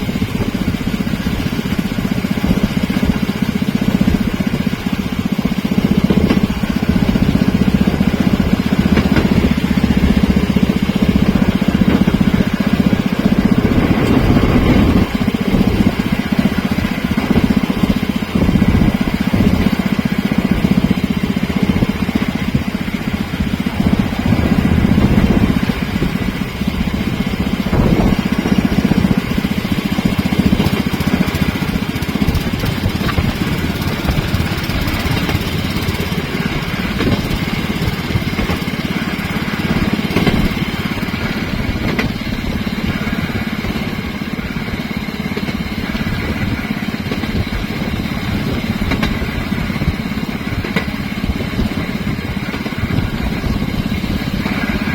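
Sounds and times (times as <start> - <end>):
rail vehicle engine running: 0.0 - 54.9.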